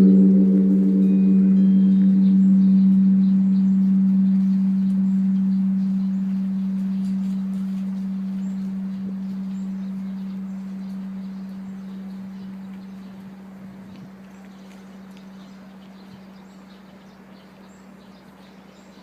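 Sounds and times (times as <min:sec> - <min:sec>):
deep temple bell hum: 0:00.0 - 0:17.2.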